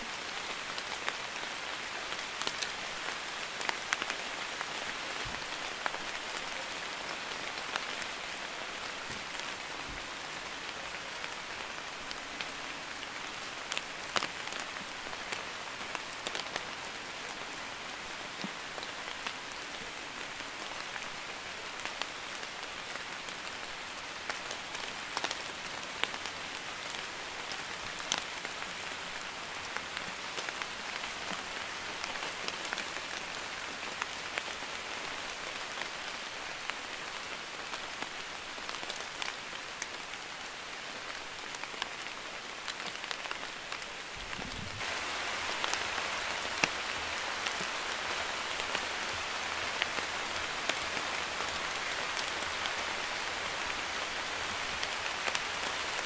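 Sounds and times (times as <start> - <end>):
light rain hissing: 0.0 - 56.0.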